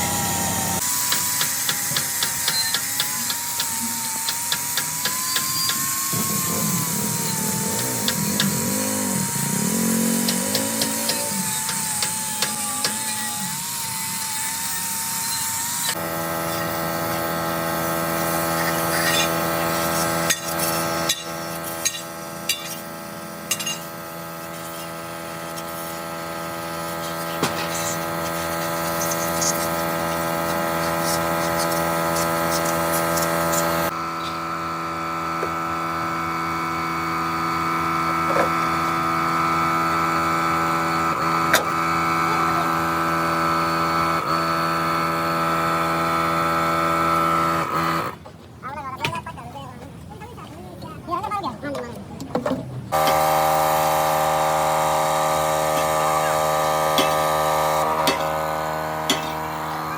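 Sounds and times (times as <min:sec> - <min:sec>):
machine tools humming: 0:00.0 - 0:48.6, 0:52.4 - 0:59.9.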